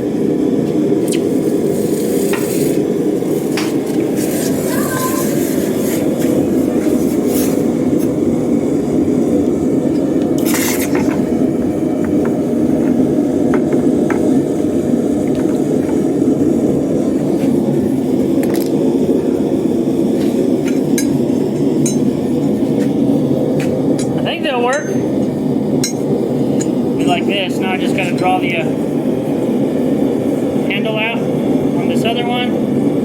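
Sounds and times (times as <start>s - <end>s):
forge rushing noise: 0.0s - 33.0s.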